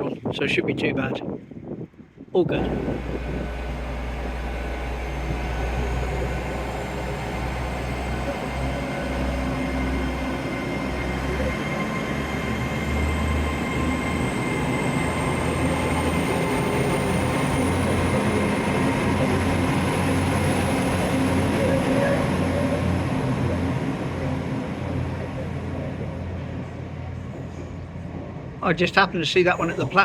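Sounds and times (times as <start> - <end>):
train engines rumbling: 0.0 - 30.0.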